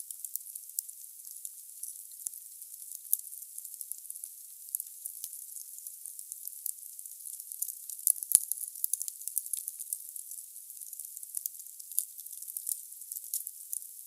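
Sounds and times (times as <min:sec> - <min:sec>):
fire crackles and pops: 0:01.8 - 0:13.9.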